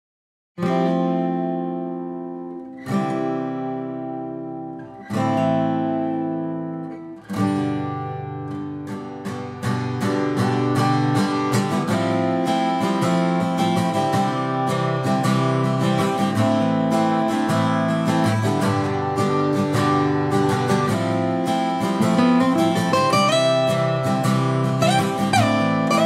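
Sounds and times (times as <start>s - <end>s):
acoustic guitar strumming chords: 0.6s - 26.0s.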